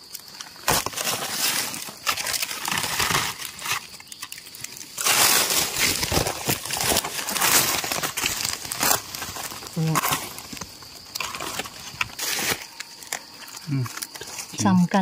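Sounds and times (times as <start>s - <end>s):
dry leaves crackling underfoot: 0.0s - 15.0s.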